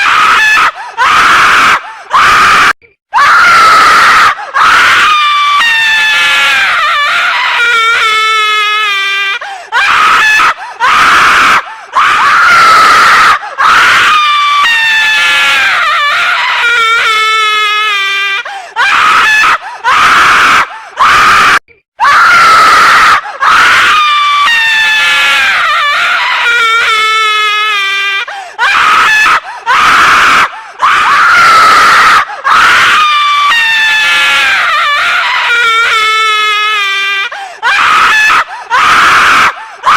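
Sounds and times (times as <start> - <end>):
woman screaming: 0.0 - 39.9.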